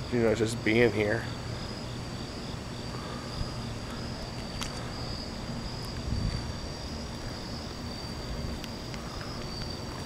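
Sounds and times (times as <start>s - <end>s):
crickets chirping: 0.0s - 10.0s
low city rumble: 0.0s - 10.0s.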